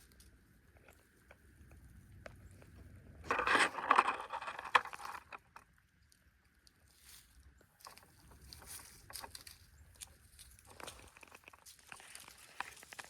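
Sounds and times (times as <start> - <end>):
rustling and scraping: 0.0 - 5.7, 6.8 - 13.0.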